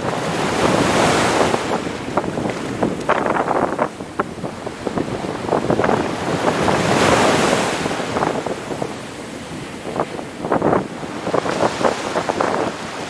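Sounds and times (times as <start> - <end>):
ocean wave breaking: 0.0 - 13.0.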